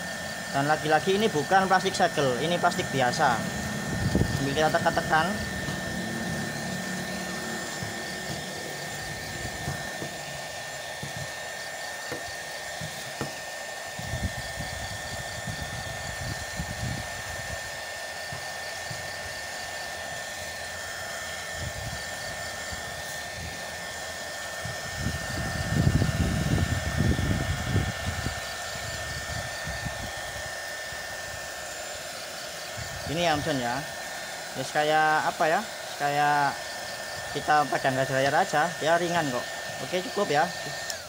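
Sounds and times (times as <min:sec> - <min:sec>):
heat gun whining: 0:00.0 - 0:41.0.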